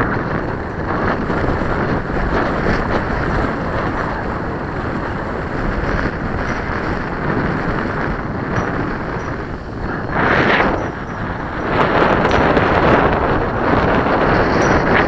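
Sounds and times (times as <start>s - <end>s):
strong gusty wind on microphone: 0.0s - 15.0s.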